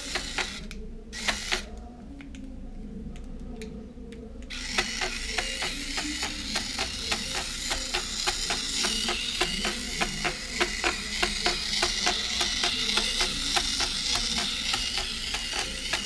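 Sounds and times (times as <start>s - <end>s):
toy robot motor and legs clicking: 0.0s - 2.4s, 4.4s - 16.0s.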